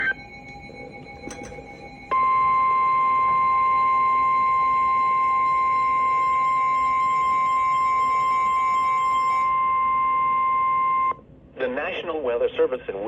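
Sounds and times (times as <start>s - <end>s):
steady high-pitched alarm tone: 0.0s - 11.2s.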